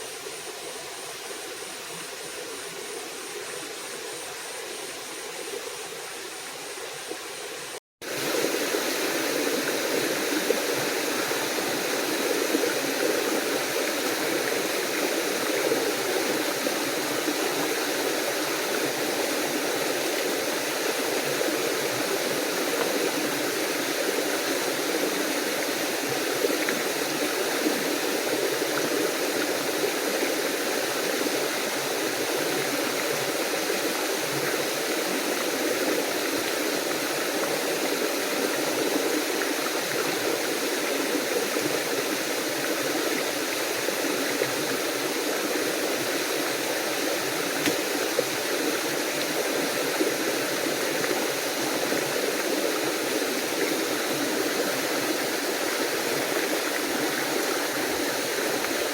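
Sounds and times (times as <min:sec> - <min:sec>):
waterfall and stream rushing: 0:00.0 - 0:58.9.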